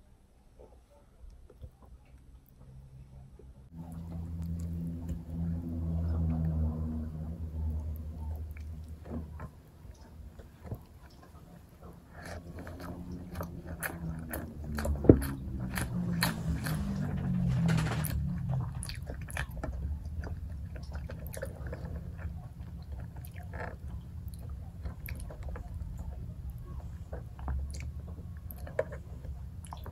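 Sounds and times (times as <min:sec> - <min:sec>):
close chewing and biting: 0:03.7 - 0:29.9.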